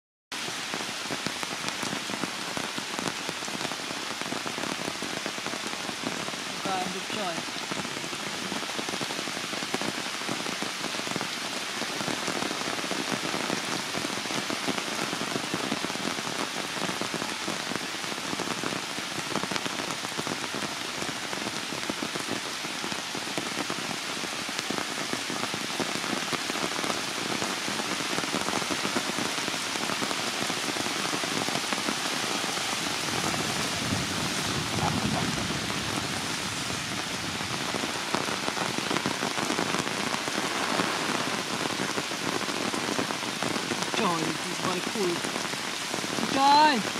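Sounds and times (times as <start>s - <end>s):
heavy rain on leaves: 0.3s - 46.9s.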